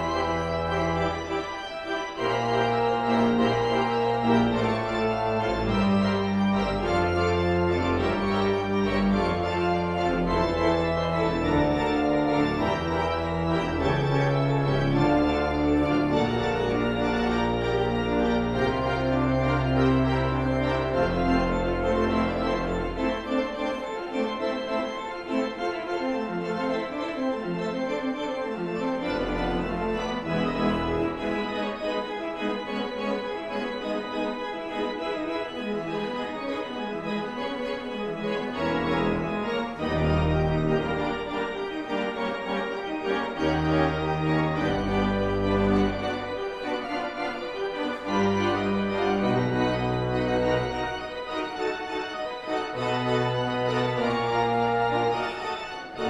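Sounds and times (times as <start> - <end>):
deep organ pedal bass notes: 0.0 - 34.2, 34.9 - 56.0
organ chords: 0.0 - 56.0.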